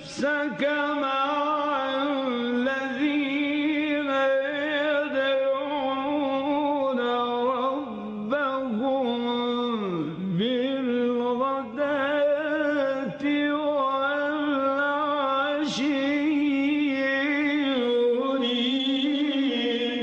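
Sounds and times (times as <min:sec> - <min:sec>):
man reciting melodically: 0:00.0 - 0:20.0.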